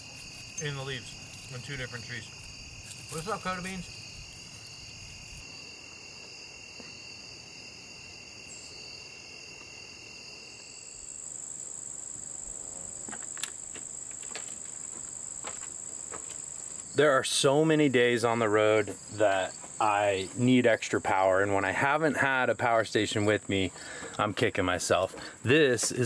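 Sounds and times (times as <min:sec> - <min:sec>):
single high insect trill: 0:00.0 - 0:22.2
insects trilling: 0:00.0 - 0:26.0.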